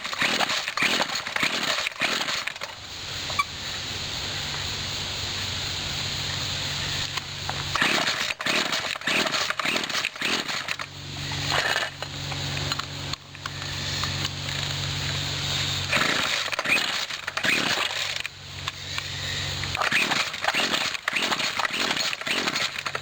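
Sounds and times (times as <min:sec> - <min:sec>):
string trimmer engine sputtering: 0:00.0 - 0:23.0.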